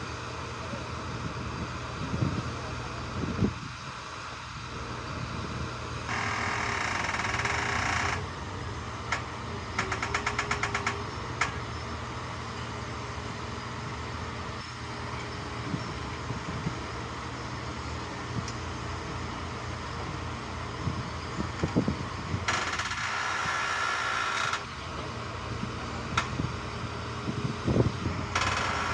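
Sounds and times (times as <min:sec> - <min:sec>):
heavy machine engine running: 0:00.0 - 0:28.9.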